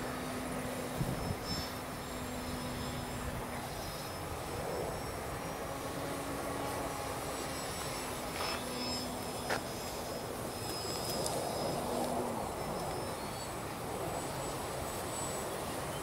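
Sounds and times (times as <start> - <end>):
model plane engine droning: 0.0 - 16.0.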